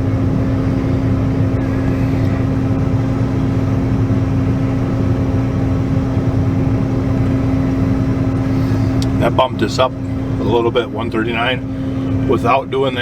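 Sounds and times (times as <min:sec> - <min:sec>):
combine harvester droning: 0:00.0 - 0:13.0
constant hum: 0:00.0 - 0:13.0.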